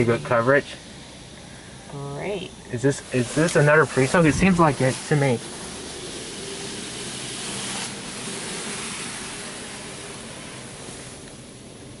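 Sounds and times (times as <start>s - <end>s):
hiss of car wash spray: 0.0s - 12.0s.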